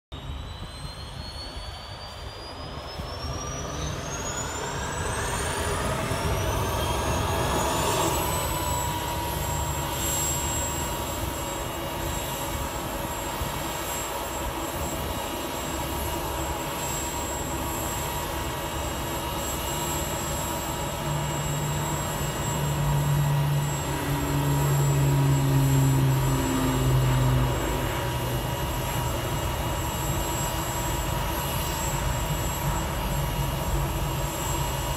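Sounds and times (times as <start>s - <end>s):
turbine engine whine: 0.0s - 34.9s
low rotor hum: 0.2s - 34.9s.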